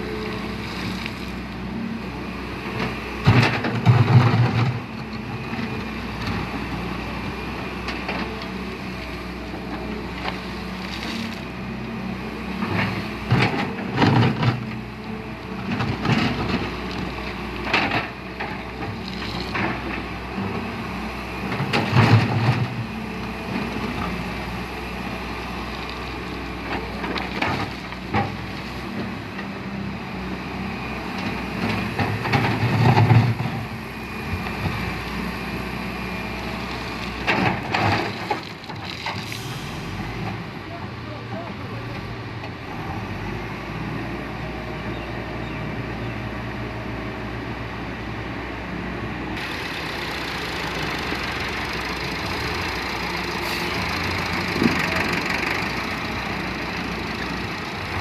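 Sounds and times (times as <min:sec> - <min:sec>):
diesel machinery running: 0:00.0 - 0:58.0.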